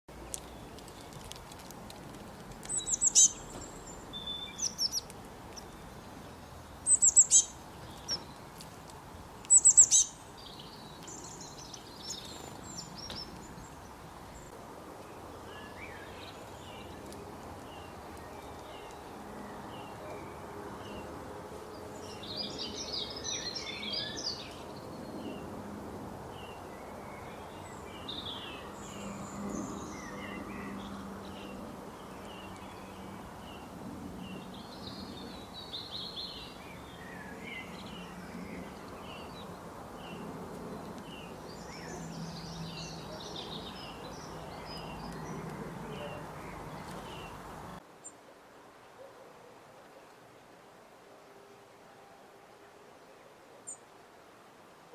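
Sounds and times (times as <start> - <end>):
birds chirping: 0.1 - 25.5, 26.3 - 47.8
steady outdoor hiss: 0.1 - 54.9.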